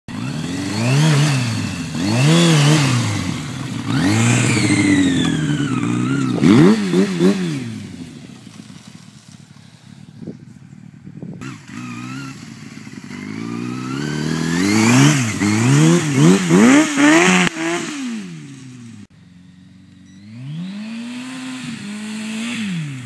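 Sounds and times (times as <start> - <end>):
engine revving: 0.1 - 8.9, 11.4 - 23.0.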